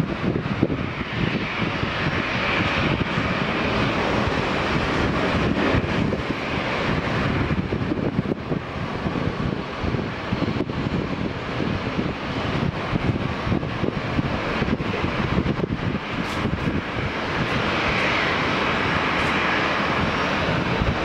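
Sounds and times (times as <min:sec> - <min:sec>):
jet engine hiss: 0:00.0 - 0:21.0
wind buffeting microphone: 0:00.0 - 0:21.0.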